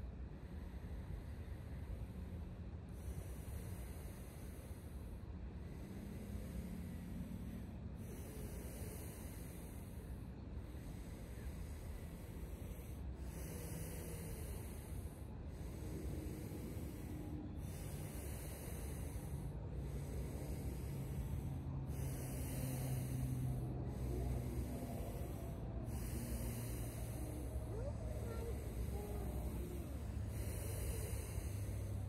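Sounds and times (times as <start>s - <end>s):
group forceful breathing: 0.0s - 32.0s.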